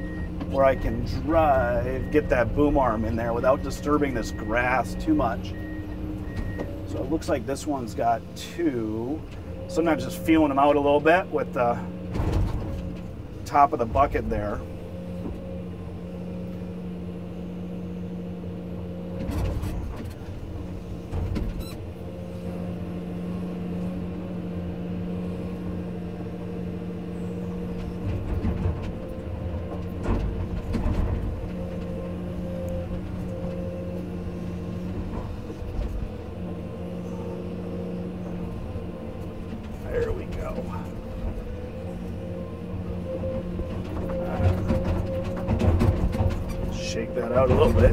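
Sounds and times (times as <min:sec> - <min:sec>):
excavator diesel engine: 0:00.0 - 0:47.9.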